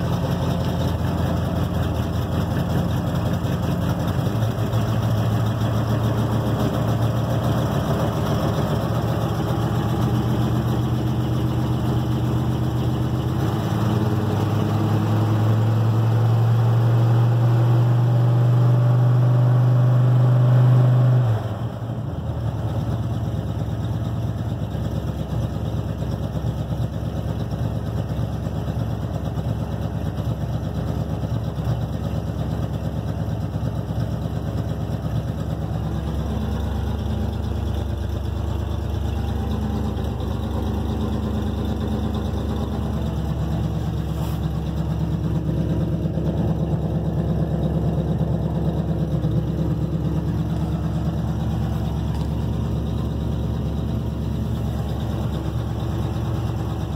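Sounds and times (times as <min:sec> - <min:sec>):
truck engine idling: 0:00.0 - 0:56.9.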